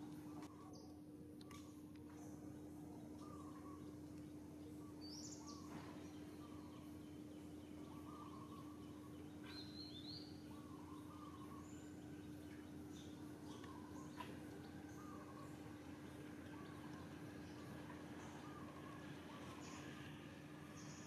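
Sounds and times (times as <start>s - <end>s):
steady low hum: 0.0s - 21.0s
bird chirps and calls: 0.1s - 21.0s.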